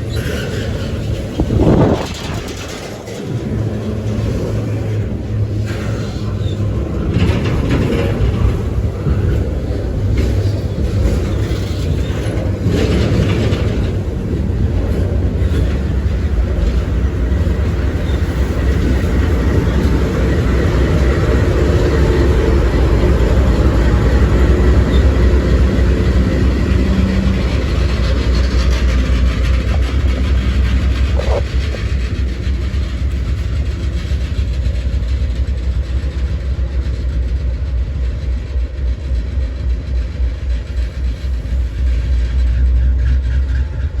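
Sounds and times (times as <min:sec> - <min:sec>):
freight train wheels rumbling on rails: 0:00.0 - 0:44.0
wheels clacking over rail joints: 0:00.0 - 0:44.0.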